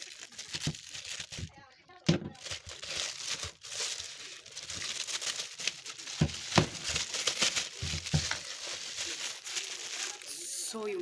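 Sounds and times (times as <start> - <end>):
plastic sheet crinkling: 0.0 - 11.0.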